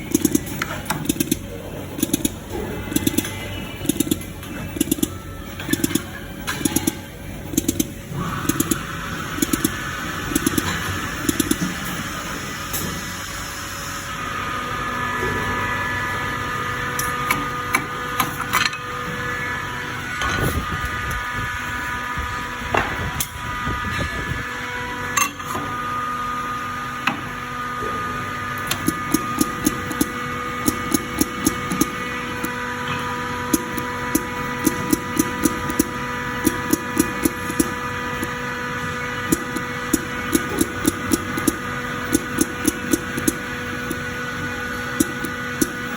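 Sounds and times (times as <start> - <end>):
dispensing machine humming: 0.0 - 45.9.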